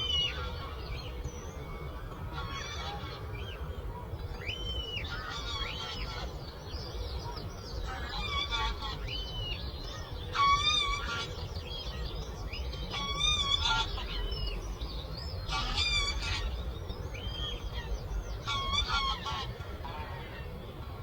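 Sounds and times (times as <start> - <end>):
low rumble of breeze: 0.0 - 21.0.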